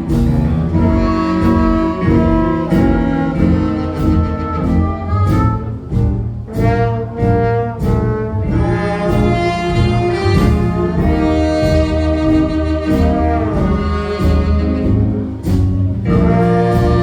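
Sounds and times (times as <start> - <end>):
brass horns playing: 0.0 - 17.0
drum hits: 0.0 - 17.0
walking double bass: 0.0 - 17.0.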